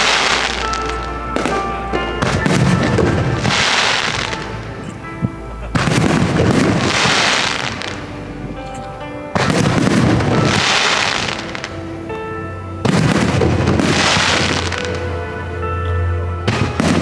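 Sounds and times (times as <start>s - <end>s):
firework booms: 0.0s - 8.6s, 9.3s - 12.0s, 12.8s - 15.2s, 16.5s - 17.0s
background music: 0.0s - 17.0s
firework crackling: 0.0s - 17.0s.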